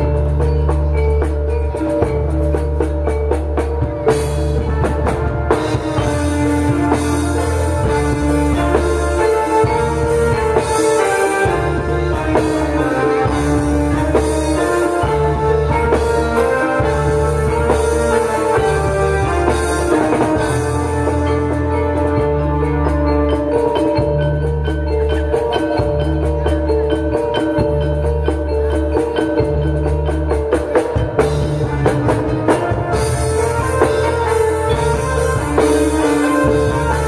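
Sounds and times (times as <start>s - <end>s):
gamelan ensemble over loudspeakers: 0.0s - 37.0s.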